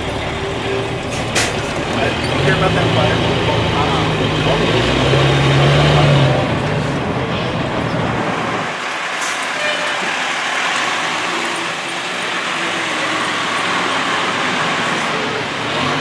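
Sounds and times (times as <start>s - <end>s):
heavy engine running: 0.0s - 16.0s
roadway hiss: 0.0s - 16.0s.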